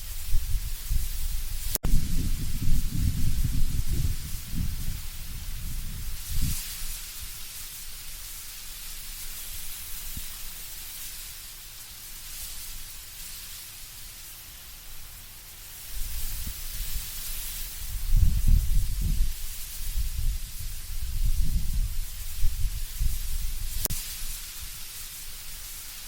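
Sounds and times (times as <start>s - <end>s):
wind rustling leaves: 0.0s - 26.0s.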